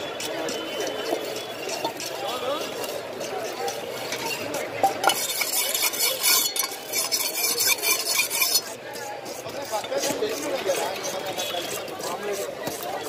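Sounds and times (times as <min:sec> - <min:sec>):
blade scraping on whetstone: 0:01.4 - 0:13.0.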